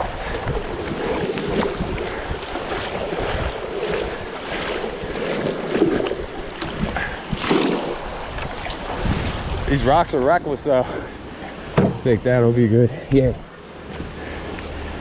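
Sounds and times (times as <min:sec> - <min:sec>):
water splashing while wading: 0:00.0 - 0:12.1.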